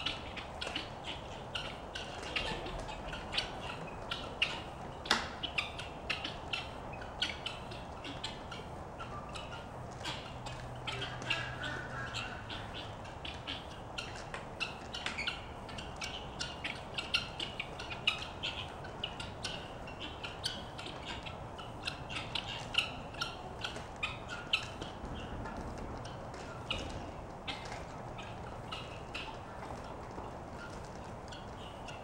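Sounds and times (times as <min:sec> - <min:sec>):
poultry squawking: 0:00.0 - 0:32.0.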